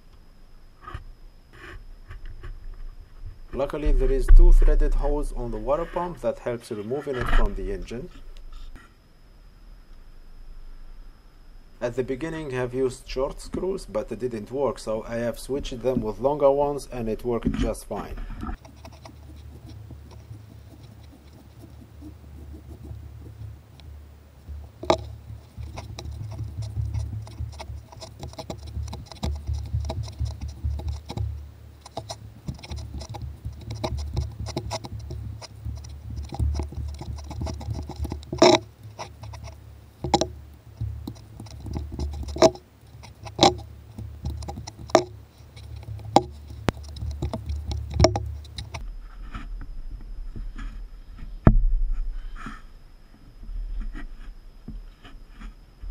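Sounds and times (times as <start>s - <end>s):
low rumble of handling noise: 0.0s - 55.9s.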